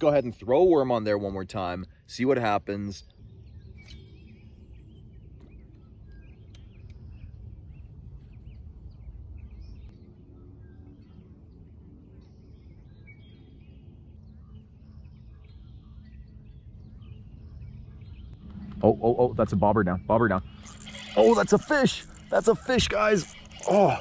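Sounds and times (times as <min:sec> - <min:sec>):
faint bird chirps: 0:02.9 - 0:24.0
low steady rumble: 0:03.0 - 0:23.6.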